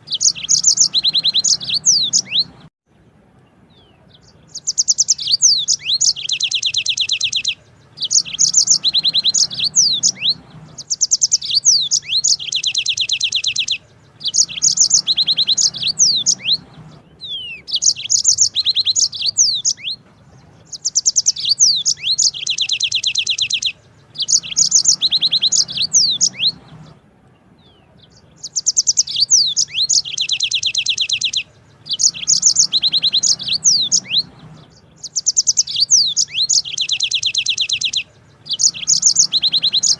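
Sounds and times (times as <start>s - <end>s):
canary singing trills: 0.0s - 2.7s, 3.3s - 39.9s.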